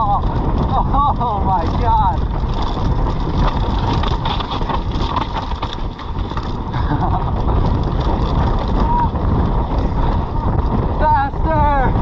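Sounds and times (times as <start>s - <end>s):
bike rattling and knocking: 0.0s - 12.0s
wind and tyre noise: 0.0s - 12.0s.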